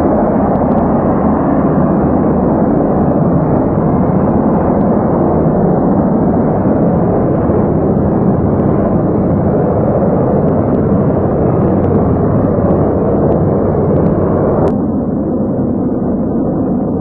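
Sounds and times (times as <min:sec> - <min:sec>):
rocket engines rumbling: 0:00.0 - 0:17.0.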